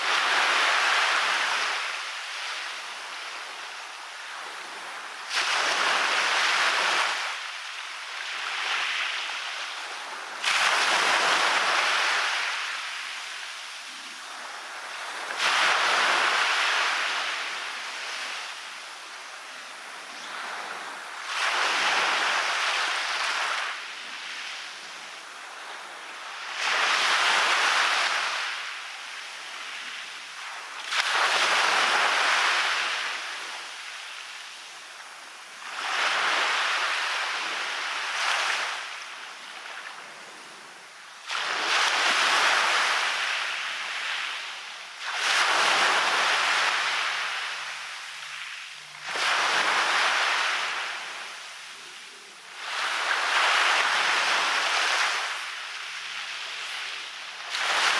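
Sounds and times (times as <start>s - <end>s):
waves breaking on a beach: 0.0s - 57.9s.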